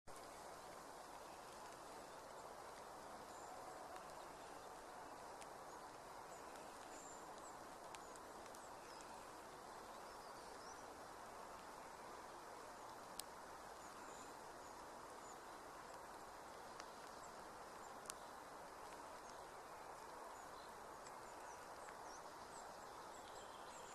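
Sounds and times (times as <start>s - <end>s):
faint rain hiss: 0.1s - 23.9s.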